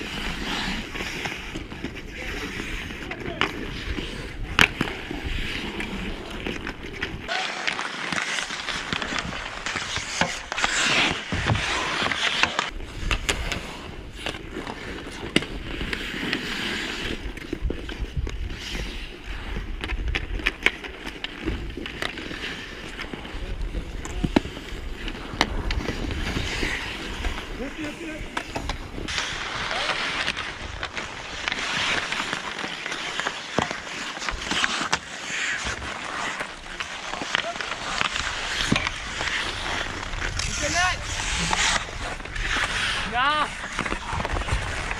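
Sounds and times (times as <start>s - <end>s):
hockey sticks and puck clacking: 0.0s - 44.9s
skates scraping on ice: 0.0s - 44.9s.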